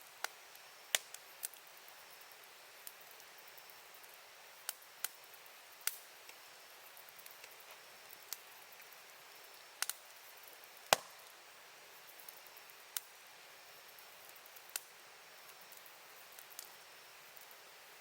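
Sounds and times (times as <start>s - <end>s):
campfire wood crackling: 0.0s - 18.0s.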